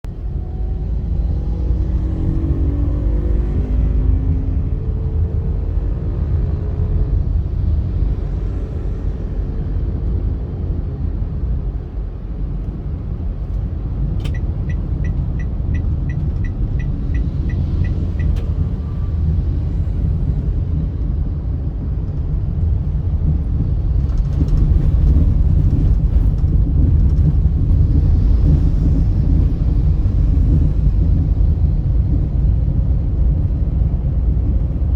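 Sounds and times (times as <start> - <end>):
car engine and tyre rumble: 0.0 - 34.9.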